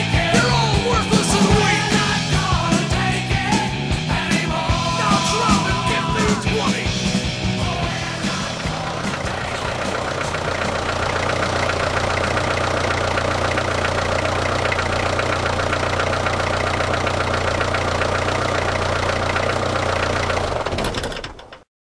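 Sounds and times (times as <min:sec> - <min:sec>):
diesel engine idling: 0:00.0 - 0:21.6.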